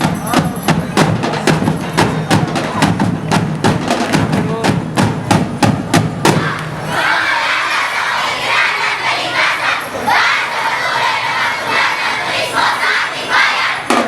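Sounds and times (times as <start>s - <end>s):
street-dance percussion beat: 0.0s - 6.9s, 7.8s - 14.0s
crowd shouting and cheering: 0.0s - 14.0s.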